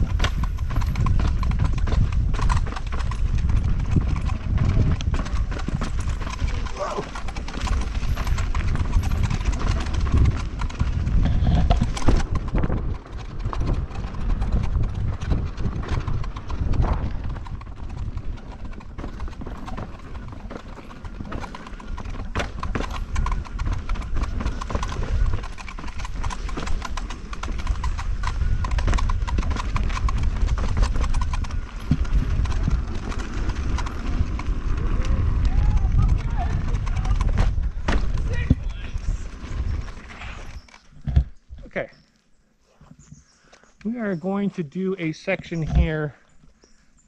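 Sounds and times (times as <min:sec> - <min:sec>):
wheel clicks and knocks: 0:00.0 - 0:41.2
tyre rolling rumble: 0:00.0 - 0:41.6
wind buffeting microphone: 0:00.0 - 0:41.8.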